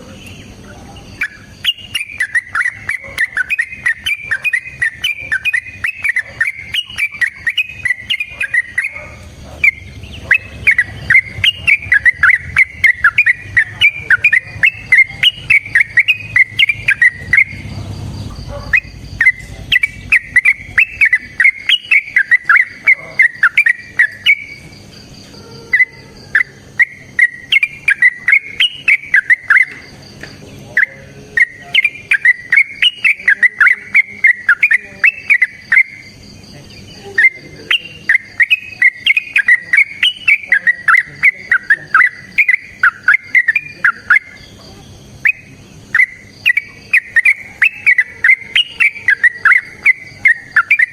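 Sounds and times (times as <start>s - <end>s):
bird chattering song: 0.0s - 50.9s
faint insect buzz: 2.9s - 50.9s.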